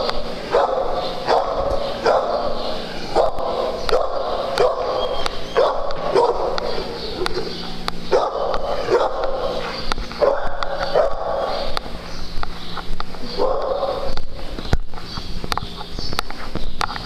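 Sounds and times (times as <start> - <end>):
dogs barking: 0.0 - 14.7.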